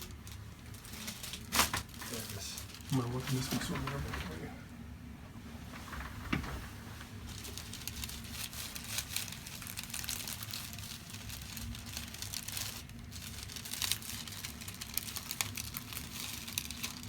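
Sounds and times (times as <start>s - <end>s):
crinkling and rustling: 0.0s - 4.7s, 5.3s - 17.0s.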